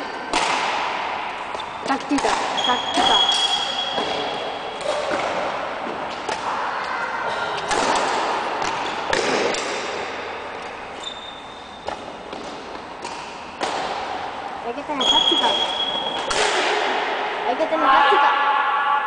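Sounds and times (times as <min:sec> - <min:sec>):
rackets striking shuttlecock: 0:00.2 - 0:06.9, 0:07.6 - 0:17.3.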